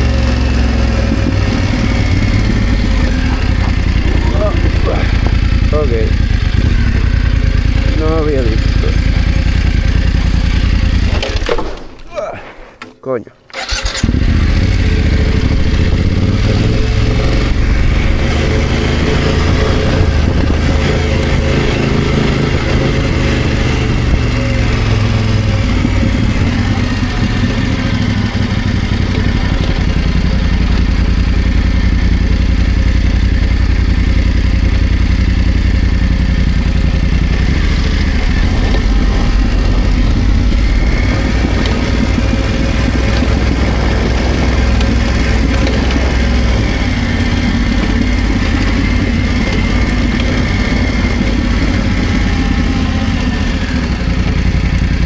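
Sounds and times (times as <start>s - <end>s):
motorcycle engine running: 0.0s - 11.8s, 13.6s - 55.0s.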